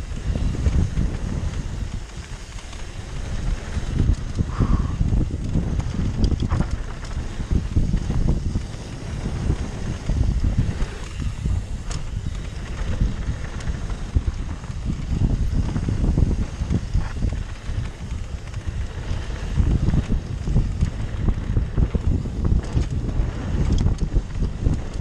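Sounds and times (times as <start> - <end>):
bike clicks and rattles: 0.0 - 25.0
tyres rumbling on gravel: 0.0 - 25.0
wind buffeting microphone: 0.0 - 25.0.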